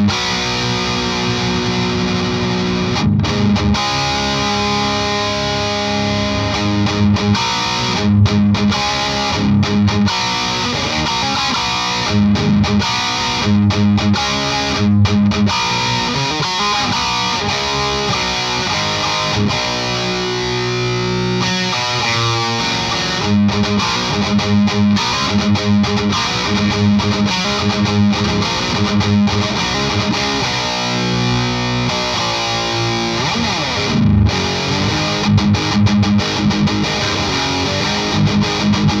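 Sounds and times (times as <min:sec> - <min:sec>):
distorted electric guitar riffing: 0:00.0 - 0:39.0.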